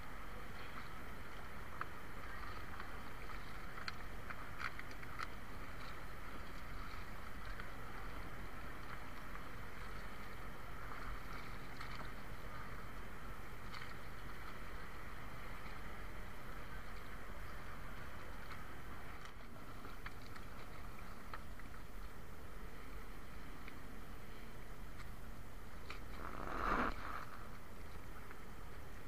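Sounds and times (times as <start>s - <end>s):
sea noise: 0.0s - 29.0s
steady wind: 0.0s - 29.0s.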